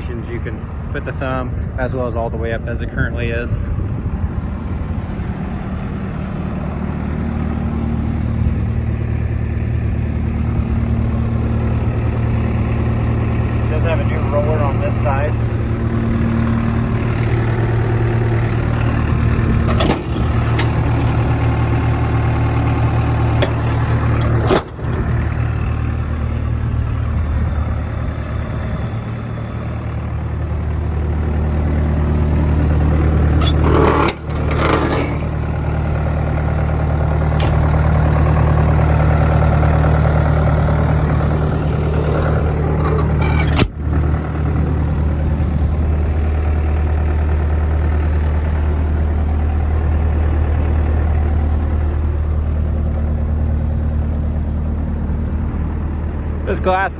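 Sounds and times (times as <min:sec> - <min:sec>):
excavator diesel engine idling: 0:00.0 - 0:56.9.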